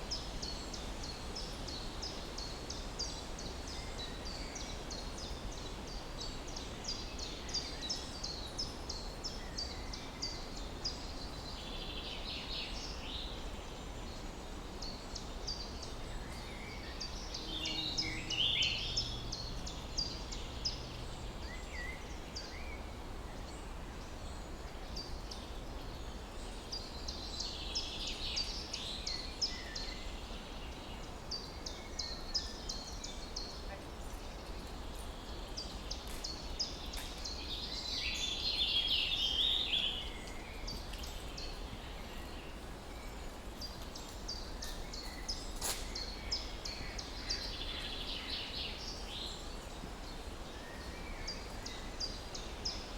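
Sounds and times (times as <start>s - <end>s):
birds singing fuller phrases: 0.0s - 52.9s.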